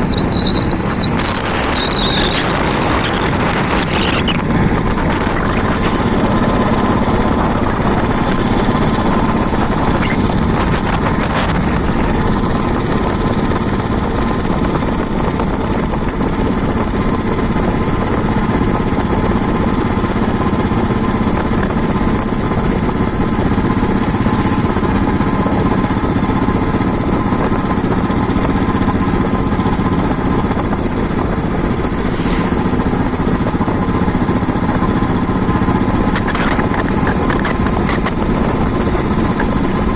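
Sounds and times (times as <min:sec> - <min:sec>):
road noise: 0:00.0 - 0:16.2, 0:19.9 - 0:39.9
vehicle engine: 0:00.0 - 0:39.9.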